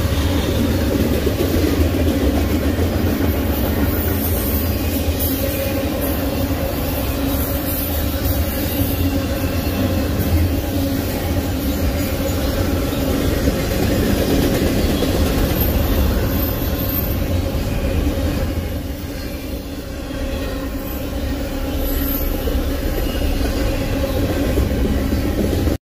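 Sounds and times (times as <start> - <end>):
train wheels rumbling on rails: 0.0 - 25.8
high wheel squeals: 3.3 - 25.3.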